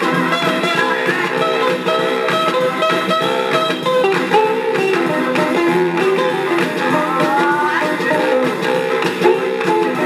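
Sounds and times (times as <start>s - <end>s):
rock and roll record playing: 0.0s - 10.0s.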